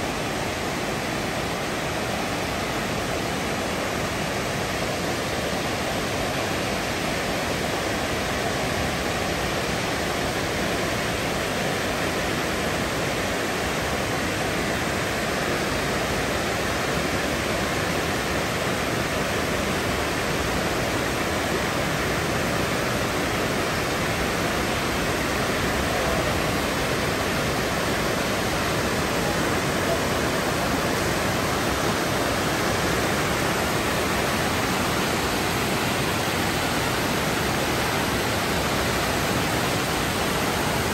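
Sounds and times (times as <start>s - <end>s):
falling water rushing: 0.0s - 40.9s.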